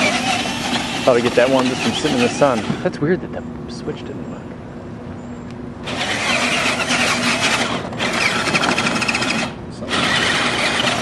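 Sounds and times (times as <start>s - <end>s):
electric motors rattling whir: 0.0s - 4.2s, 5.4s - 11.0s.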